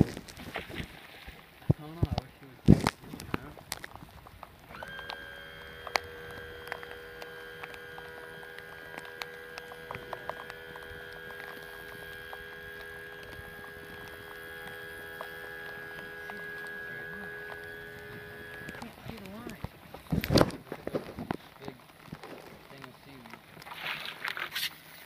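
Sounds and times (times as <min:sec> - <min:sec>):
electric motor whine: 0:02.7 - 0:23.7.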